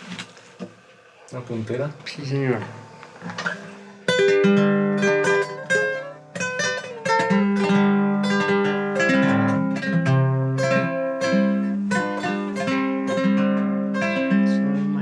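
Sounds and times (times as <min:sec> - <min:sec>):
acoustic guitar melody: 0:02.4 - 0:15.0.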